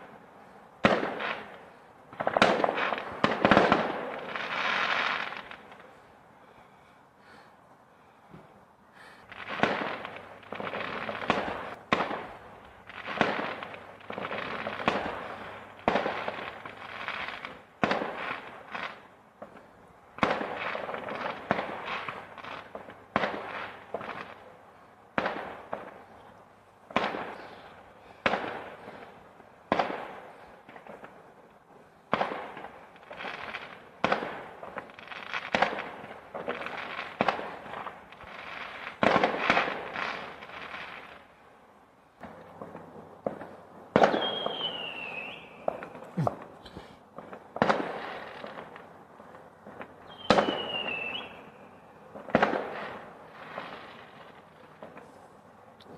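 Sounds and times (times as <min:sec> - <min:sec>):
fireworks bangs and crackling: 0:00.0 - 0:06.0, 0:08.4 - 0:26.2, 0:26.8 - 0:41.5, 0:42.1 - 0:55.9.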